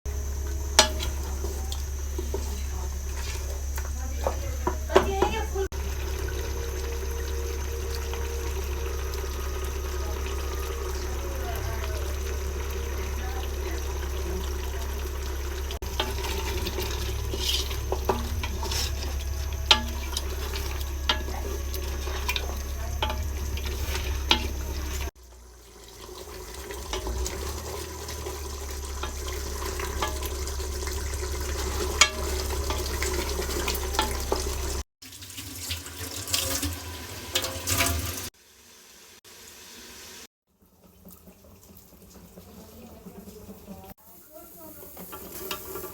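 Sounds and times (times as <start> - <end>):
water running into sink: 0.1 - 43.9.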